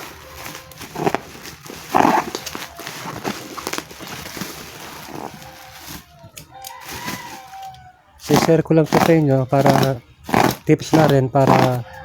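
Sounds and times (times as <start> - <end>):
packaging knocking and rustling: 0.0 - 12.0.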